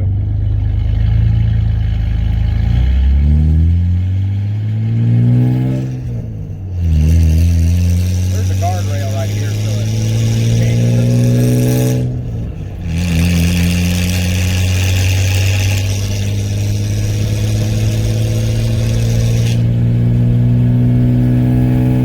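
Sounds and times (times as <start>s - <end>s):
pickup truck engine accelerating: 0.0s - 22.0s.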